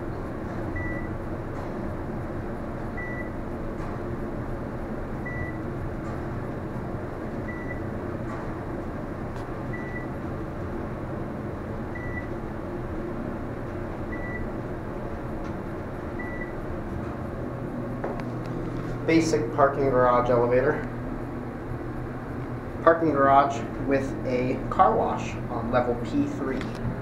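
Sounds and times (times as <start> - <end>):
elevator ride rumble: 0.0 - 27.0.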